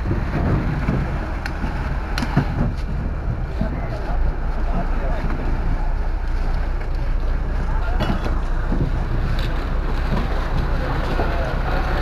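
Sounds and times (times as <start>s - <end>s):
busy harbour din: 0.0s - 12.0s
wind on microphone: 0.0s - 12.0s.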